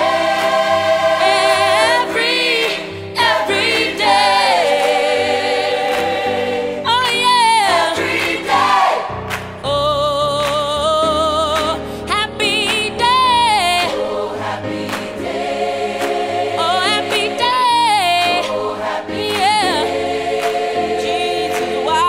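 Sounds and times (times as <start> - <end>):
choir singing held notes: 0.0 - 9.4, 13.2 - 22.0.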